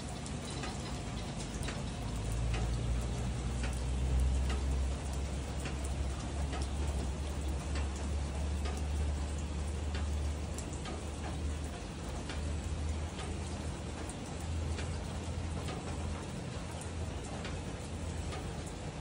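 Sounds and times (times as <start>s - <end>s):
drops ticking on a surface: 0.0s - 19.0s
steady rain falling: 0.0s - 19.0s.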